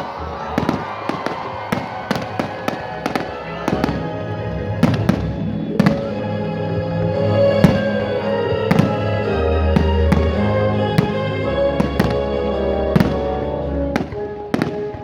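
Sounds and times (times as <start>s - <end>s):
background music: 0.0s - 15.0s
fireworks bangs and cracks: 0.5s - 6.3s, 7.6s - 8.1s, 8.7s - 15.0s.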